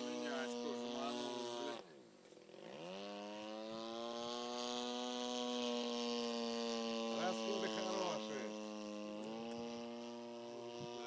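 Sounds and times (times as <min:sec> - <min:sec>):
model plane engine buzzing: 0:00.0 - 0:11.0.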